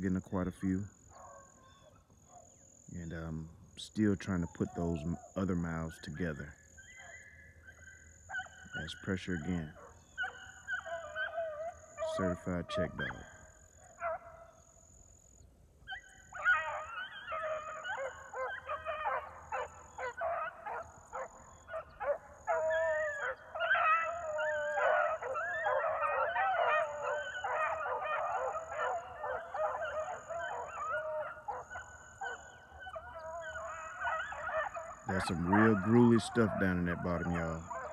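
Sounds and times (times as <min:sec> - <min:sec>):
hounds baying: 0:00.0 - 0:37.9.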